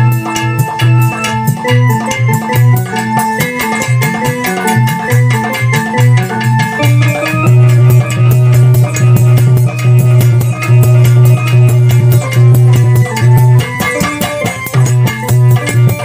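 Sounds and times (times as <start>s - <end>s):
organ-like keyboard melody: 0.0s - 16.0s
quick steady drum beat: 0.0s - 16.0s.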